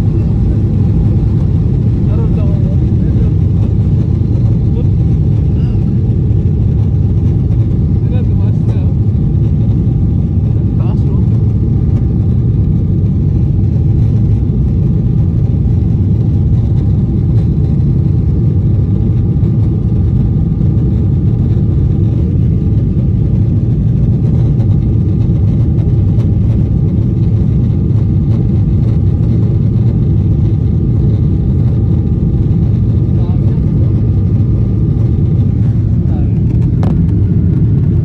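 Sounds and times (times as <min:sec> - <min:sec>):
faint engine whine: 0:00.0 - 0:38.0
jet engine rumble in cabin: 0:00.0 - 0:38.0.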